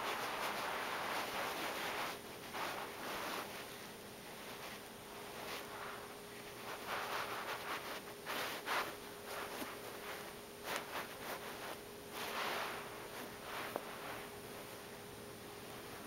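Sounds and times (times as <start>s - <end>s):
fingertips scratching on carpet: 0.0s - 14.3s.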